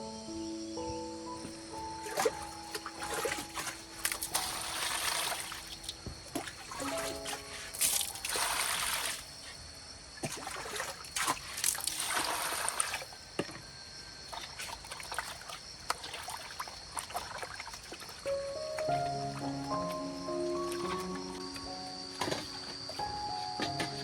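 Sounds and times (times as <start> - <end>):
water splashing and trickling: 1.5 - 24.0.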